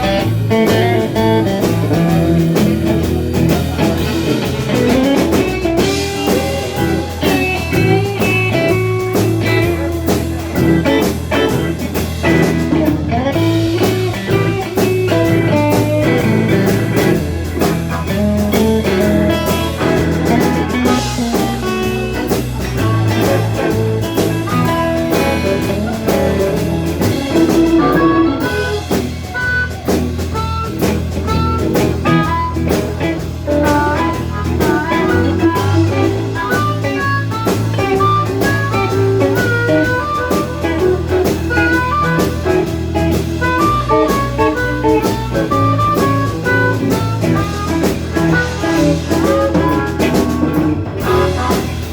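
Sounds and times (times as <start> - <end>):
bass and drum kit: 0.0 - 51.9
guitar notes: 0.0 - 51.9.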